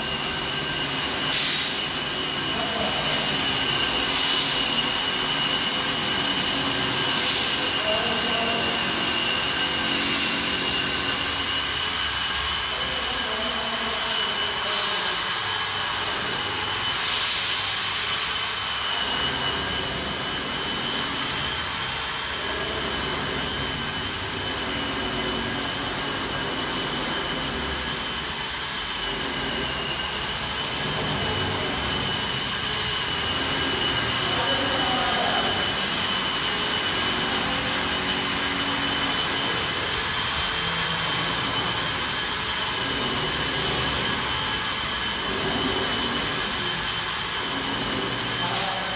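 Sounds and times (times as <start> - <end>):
high-pitched motor whine: 0.0 - 48.9.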